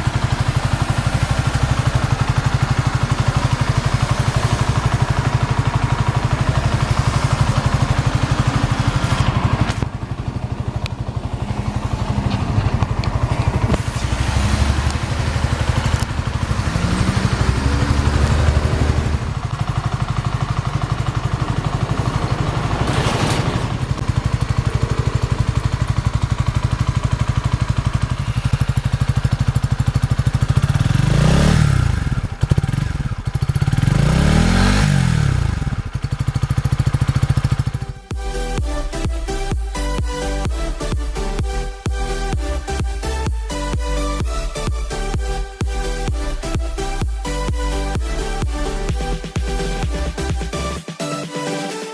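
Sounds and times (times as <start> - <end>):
motorcycle engine idling: 0.0 - 50.9
motorcycle engine revving: 0.0 - 50.9.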